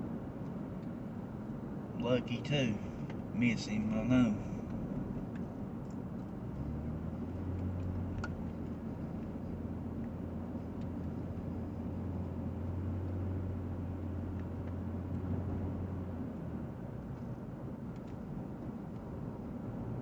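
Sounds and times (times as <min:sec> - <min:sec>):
car engine drone: 0:00.0 - 0:20.0
tyre and road noise: 0:00.0 - 0:20.0.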